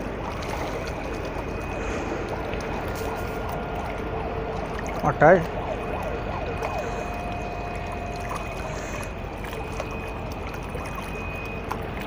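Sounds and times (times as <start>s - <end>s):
faint high whine: 0.0s - 12.0s
seawater washing on rocks: 0.0s - 12.0s
wind: 0.0s - 12.0s.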